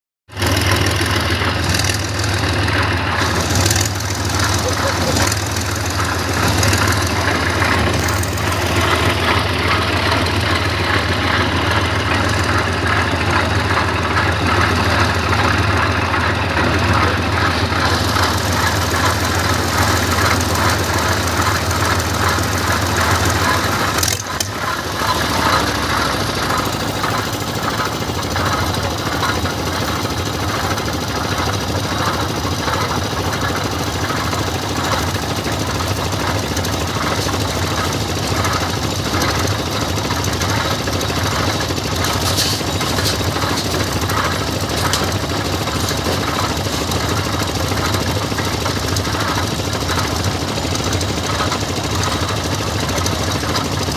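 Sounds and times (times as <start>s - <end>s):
machine engine humming: 0.4s - 53.9s.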